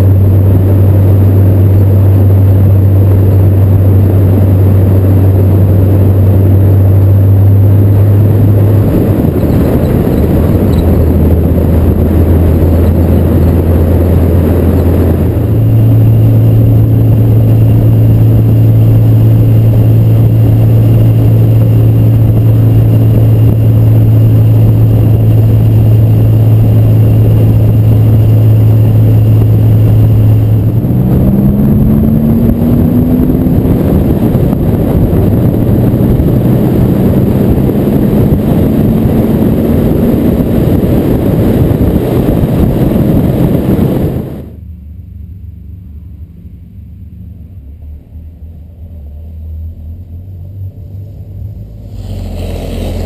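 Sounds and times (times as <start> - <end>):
car engine droning and revving: 0.0 - 53.0
distant car rumble: 0.0 - 53.0.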